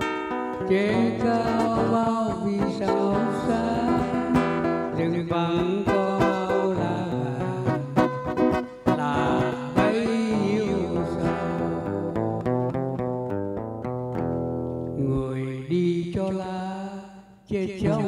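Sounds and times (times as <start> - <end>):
acoustic guitar single notes: 0.0 - 15.7.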